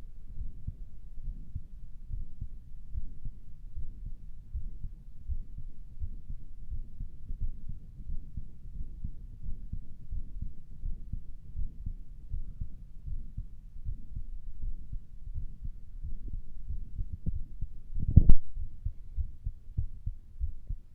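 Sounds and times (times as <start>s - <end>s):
heartbeat through stethoscope: 0.2s - 20.9s.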